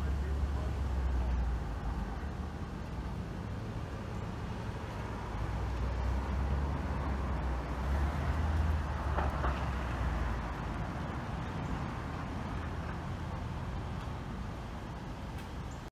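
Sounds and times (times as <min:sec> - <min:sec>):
vehicle engine rumble: 0:00.0 - 0:15.9.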